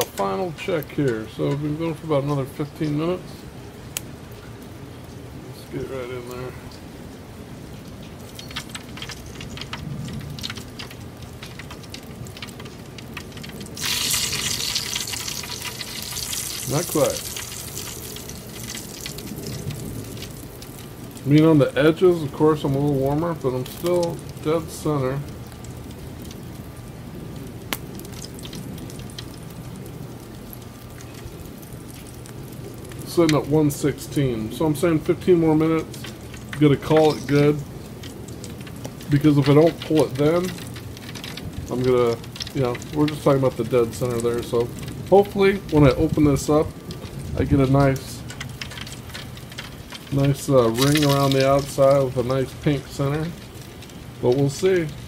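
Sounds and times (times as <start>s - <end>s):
wood fire crackling and popping: 0.0s - 55.0s
sizzling hiss: 10.4s - 55.0s.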